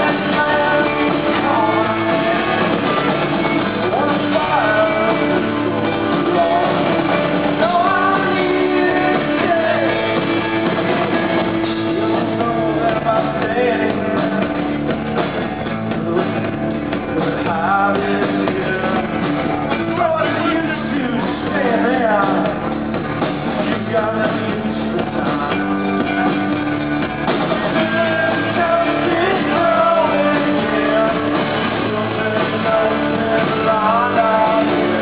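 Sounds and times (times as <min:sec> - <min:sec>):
person singing lead vocal: 0:00.0 - 0:22.8, 0:23.5 - 0:35.0
drums: 0:00.0 - 0:35.0
electric guitars: 0:00.0 - 0:35.0.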